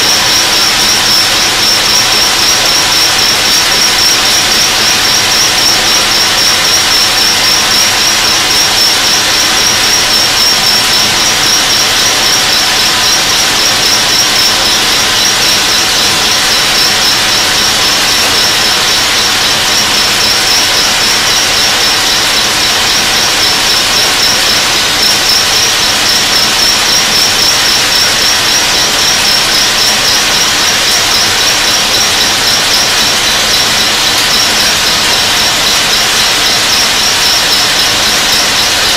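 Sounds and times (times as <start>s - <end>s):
high-pitched cutting whine: 0.0s - 38.9s.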